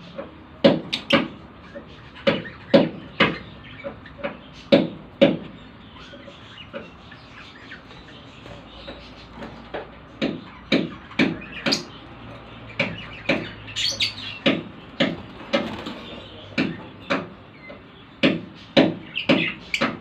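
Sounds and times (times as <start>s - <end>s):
lovebirds chirping: 0.0s - 20.0s.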